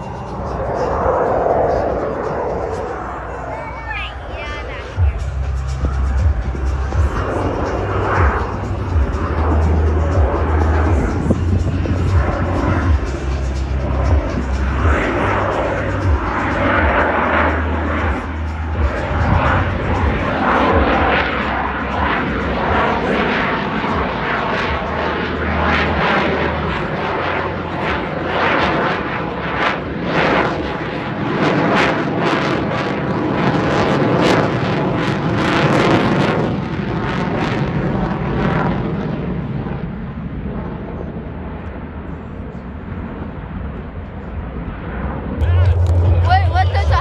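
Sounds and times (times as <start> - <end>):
jet engine roar passing: 0.0 - 47.0.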